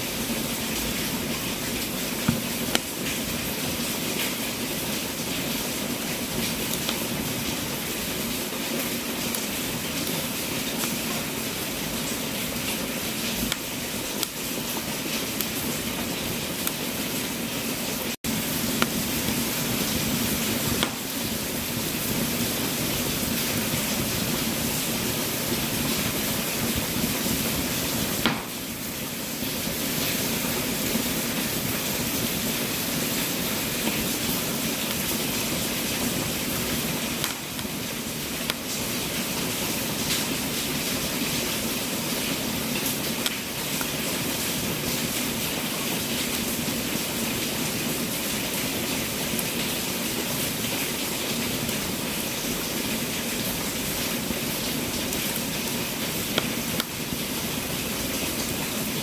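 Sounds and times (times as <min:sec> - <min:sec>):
fire hissing: 0:00.0 - 0:59.0
wood crackling and popping: 0:00.4 - 0:17.1, 0:18.2 - 0:59.0.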